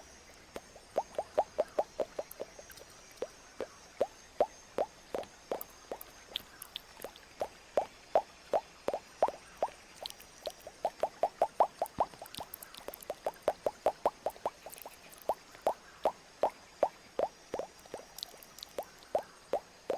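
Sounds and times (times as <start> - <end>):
mouth pops: 0.6 - 19.9.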